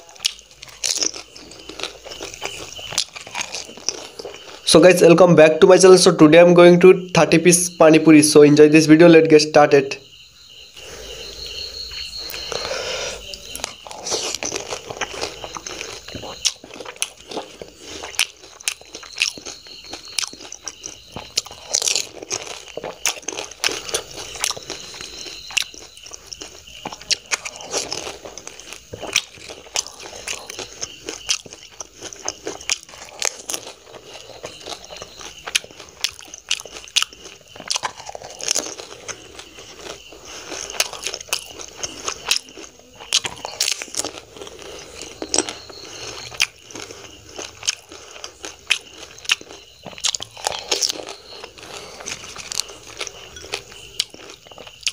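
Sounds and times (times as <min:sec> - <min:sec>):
crunching and chewing: 0:00.0 - 0:08.7, 0:09.7 - 0:54.9.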